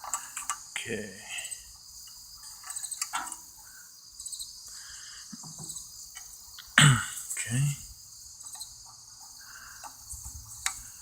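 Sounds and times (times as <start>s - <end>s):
insects chirping in trills: 0.0s - 11.0s.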